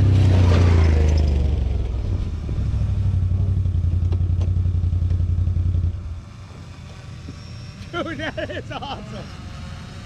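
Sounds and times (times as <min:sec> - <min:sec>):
quad engine running: 0:00.0 - 0:10.0.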